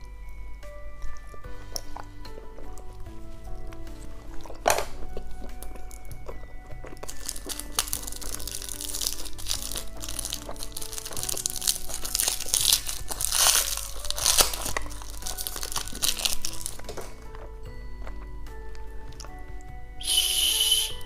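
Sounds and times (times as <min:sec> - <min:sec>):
candy wrapper crinkling: 0:00.0 - 0:19.4
background music: 0:00.0 - 0:21.0.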